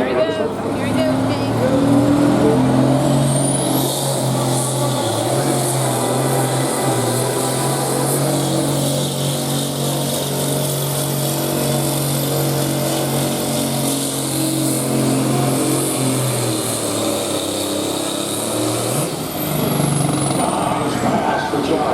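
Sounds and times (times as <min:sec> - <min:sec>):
tractor engine at high revs: 0:00.0 - 0:21.9.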